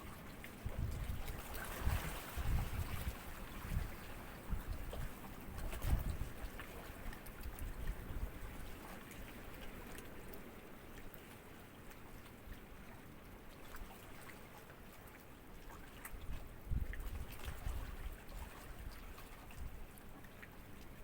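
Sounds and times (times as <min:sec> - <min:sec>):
sea ripples lapping: 0:00.0 - 0:21.0.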